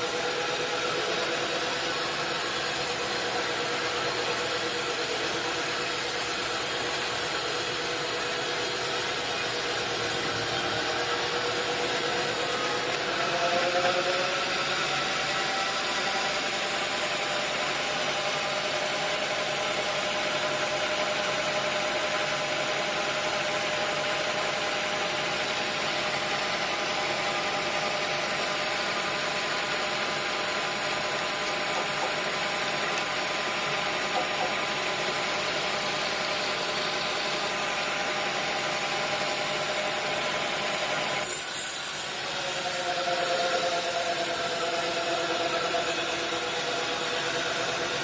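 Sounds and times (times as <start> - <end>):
sawmill engine running: 0.0 - 48.0.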